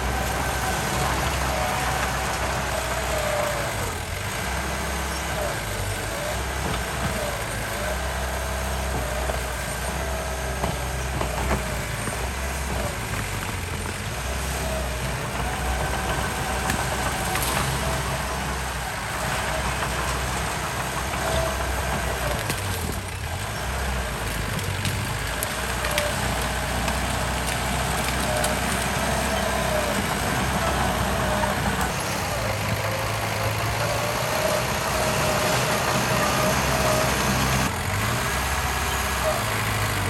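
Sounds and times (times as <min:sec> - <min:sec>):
construction machine diesel engine: 0:00.0 - 0:40.0.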